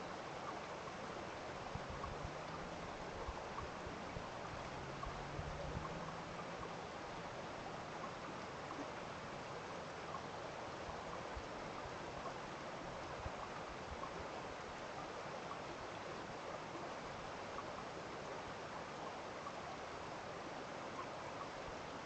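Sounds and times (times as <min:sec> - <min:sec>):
running water: 0:00.0 - 0:22.0
faint ticks: 0:00.4 - 0:22.0.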